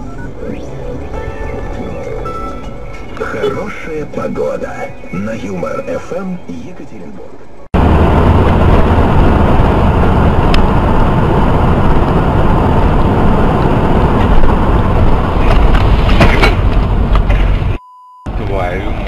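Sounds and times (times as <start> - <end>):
vehicle road and wind noise: 0.0 - 19.0.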